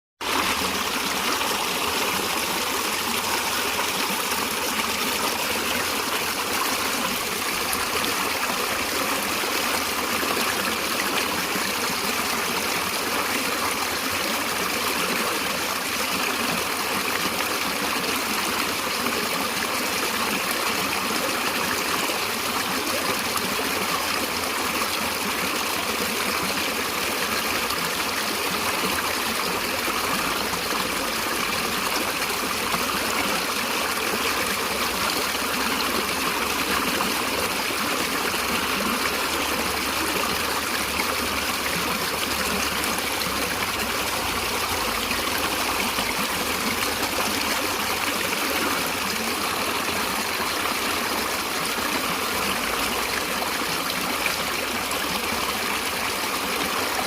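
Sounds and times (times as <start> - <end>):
stream of water flowing: 0.2 - 57.0.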